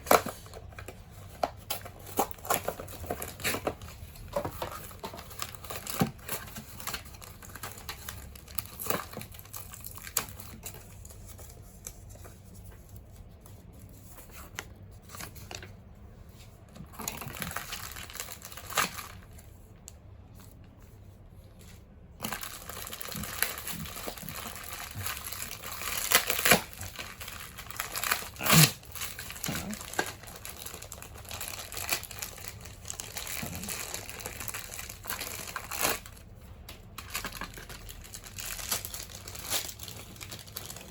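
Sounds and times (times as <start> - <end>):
packaging crinkling and tearing: 0.0 - 15.8, 16.6 - 20.7, 22.2 - 40.9.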